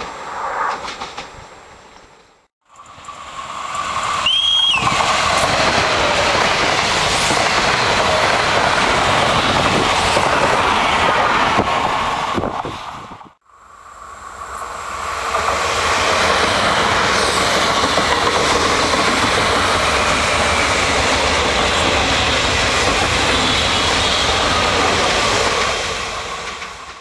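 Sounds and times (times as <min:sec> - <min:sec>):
train wheels on rails: 0:00.0 - 0:13.4, 0:14.0 - 0:27.0.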